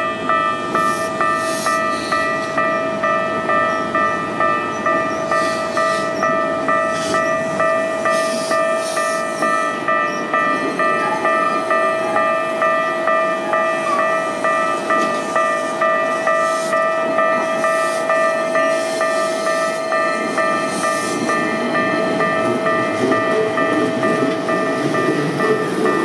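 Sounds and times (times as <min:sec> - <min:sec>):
level-crossing warning bell: 0:00.0 - 0:26.0
train passing: 0:00.0 - 0:26.0
wheels clattering on rails: 0:00.0 - 0:26.0.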